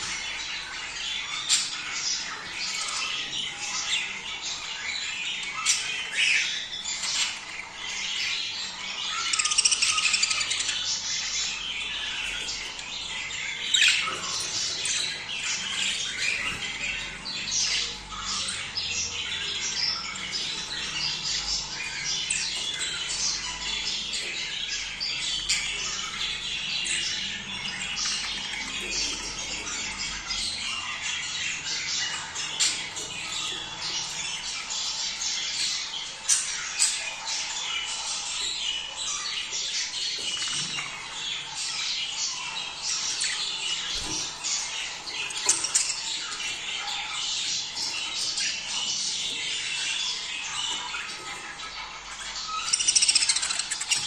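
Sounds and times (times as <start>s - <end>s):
budgerigars chattering and squawking: 0.0s - 54.0s.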